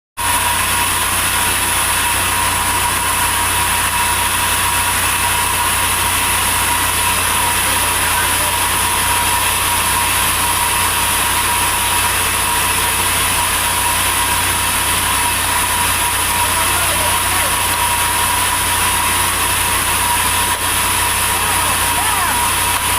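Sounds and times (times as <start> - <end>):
sawmill machinery humming: 0.2 - 22.9.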